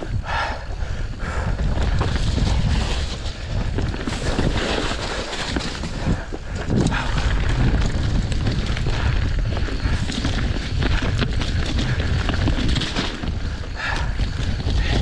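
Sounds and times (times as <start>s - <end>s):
bike tyres rumbling on dirt trail: 0.0s - 15.0s
wind buffeting microphone: 0.0s - 15.0s
bike rattling over bumps: 0.2s - 15.0s.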